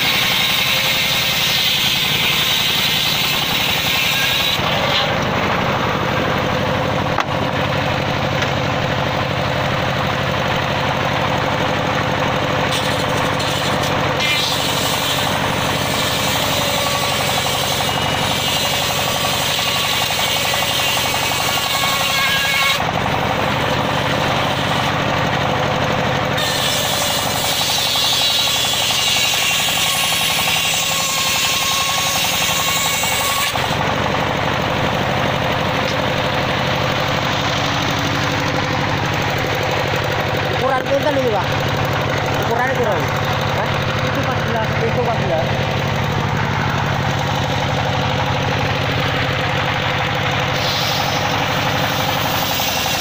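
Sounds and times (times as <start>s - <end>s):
table saw ripping wood: 0.0s - 10.0s, 12.6s - 53.0s
machine low drone: 0.0s - 53.0s.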